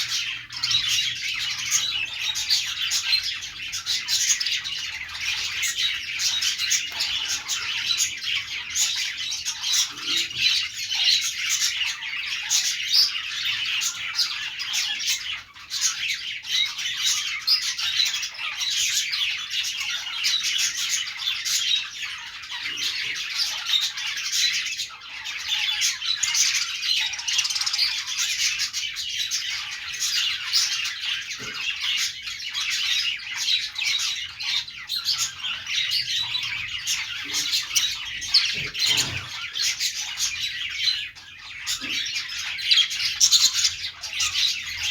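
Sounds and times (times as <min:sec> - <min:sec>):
budgerigars chattering and chirping: 0:00.0 - 0:44.9.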